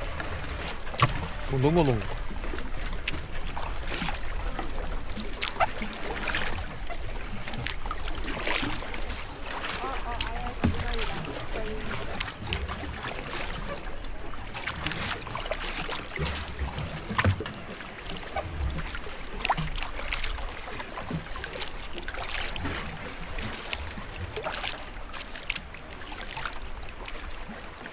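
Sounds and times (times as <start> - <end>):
paddle splashing in water: 0.0 - 27.9
wash of water: 0.0 - 27.9
water dripping: 0.8 - 17.5, 18.1 - 27.9.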